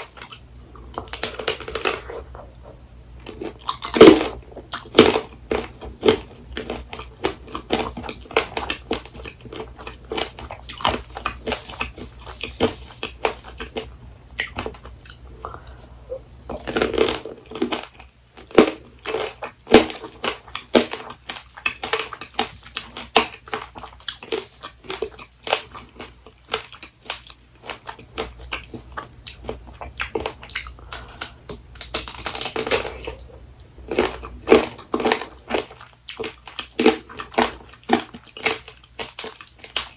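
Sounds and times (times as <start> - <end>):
crunchy candy biting and chewing: 0.0 - 39.9.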